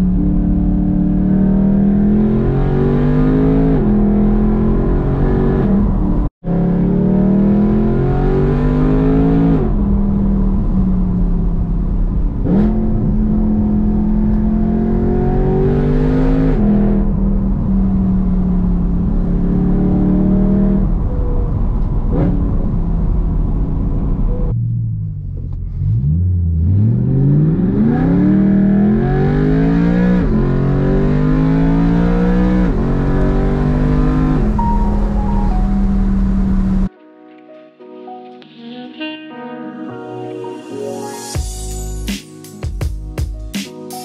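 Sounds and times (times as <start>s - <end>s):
car engine accelerating through gears: 0.0s - 36.9s.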